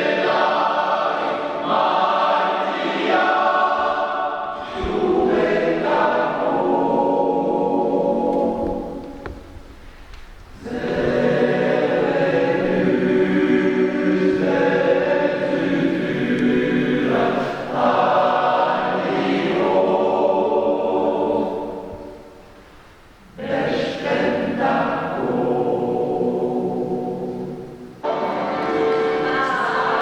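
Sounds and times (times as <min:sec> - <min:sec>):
choir singing: 0:00.0 - 0:09.5, 0:10.6 - 0:22.5, 0:23.3 - 0:30.0.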